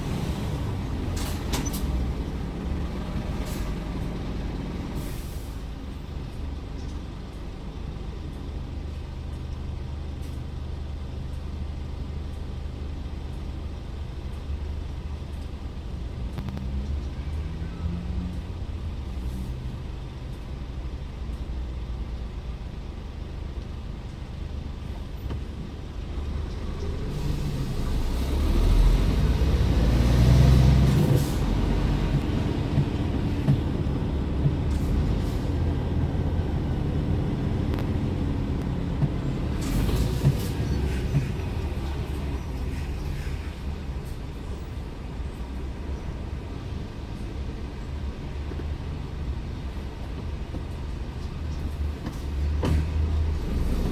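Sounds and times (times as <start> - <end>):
truck diesel engine rumble: 0.0 - 53.9.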